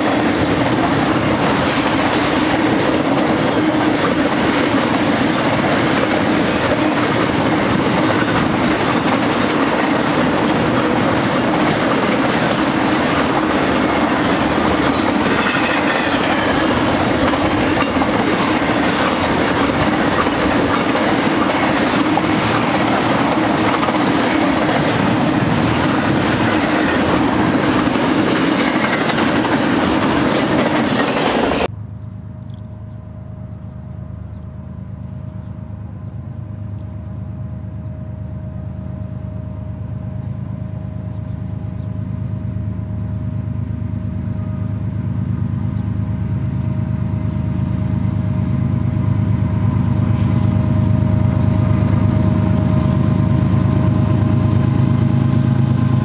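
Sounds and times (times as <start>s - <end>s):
freight train wheels on rails: 0.0s - 31.7s, 33.6s - 56.0s.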